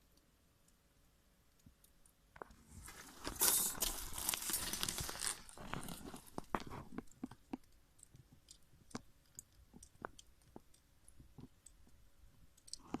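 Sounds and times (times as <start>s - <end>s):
faint irregular clicks: 0.0s - 3.2s, 5.6s - 13.0s.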